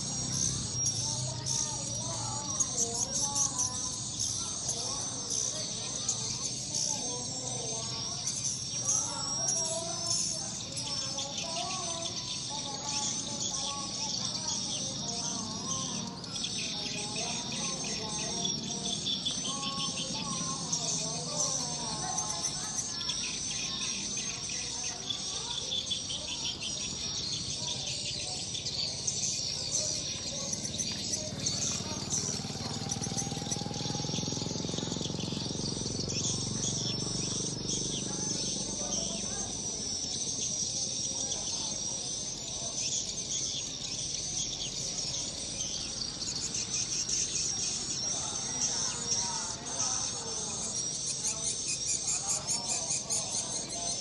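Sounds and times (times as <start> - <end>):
swiftlets twittering: 0.0 - 54.0.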